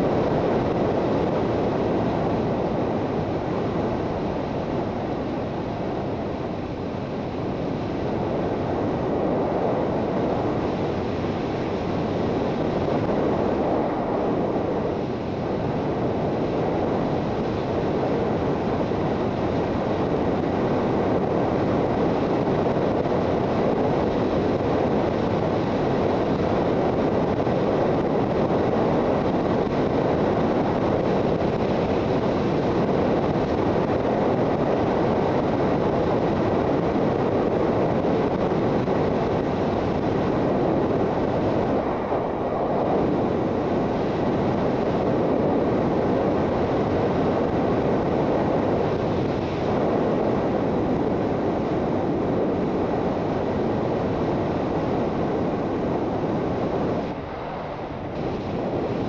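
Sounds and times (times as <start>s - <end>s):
wind rushing on microphone: 0.0s - 59.0s.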